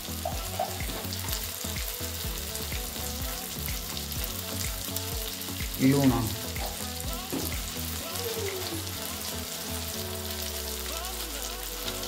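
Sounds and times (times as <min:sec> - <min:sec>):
background music: 0:00.0 - 0:12.0
oil sizzling: 0:00.0 - 0:12.0.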